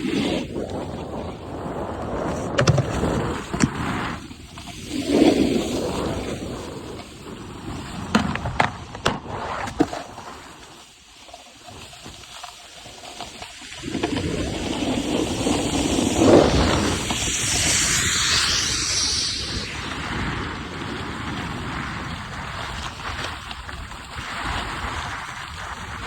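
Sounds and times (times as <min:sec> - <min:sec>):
snowboard scraping over snow: 0:00.0 - 0:26.0.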